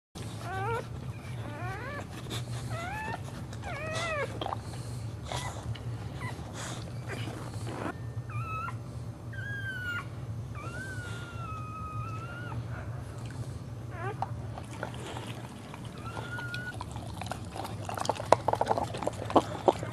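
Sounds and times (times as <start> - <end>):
dog whining: 0.2 - 19.9
steady low hum: 0.2 - 19.9.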